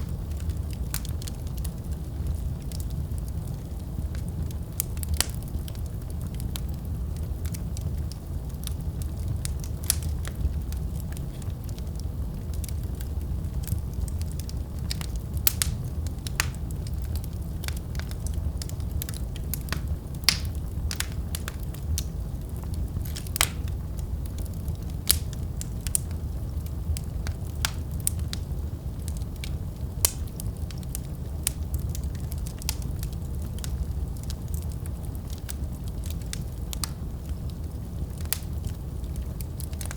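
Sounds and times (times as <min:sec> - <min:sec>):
fire crackles and pops: 0:00.0 - 0:39.9
wood fire rumbling: 0:00.0 - 0:39.9.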